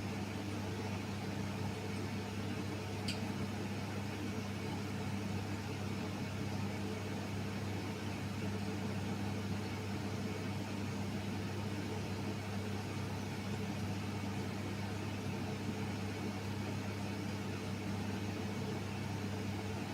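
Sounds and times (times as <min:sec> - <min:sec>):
electric fan hum: 0:00.0 - 0:19.9.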